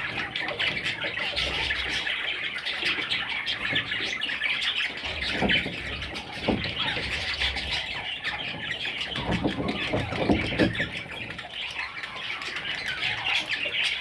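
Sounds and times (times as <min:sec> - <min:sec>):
budgerigars chattering and warbling: 0:00.0 - 0:14.0.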